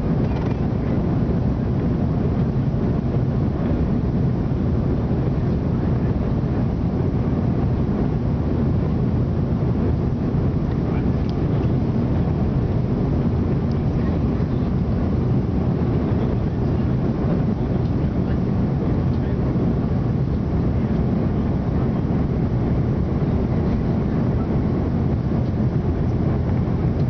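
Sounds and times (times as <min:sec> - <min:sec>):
jet airliner cabin noise: 0:00.0 - 0:27.0.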